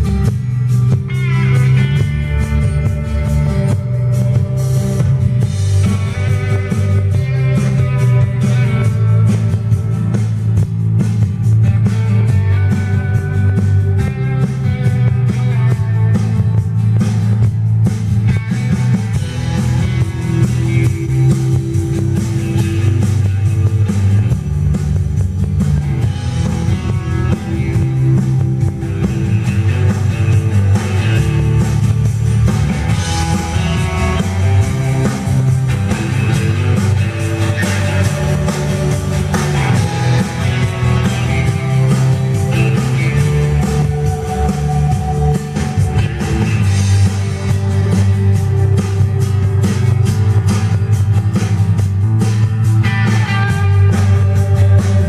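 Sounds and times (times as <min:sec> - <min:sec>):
rock music with guitar and drums: 0:00.0 - 0:55.0.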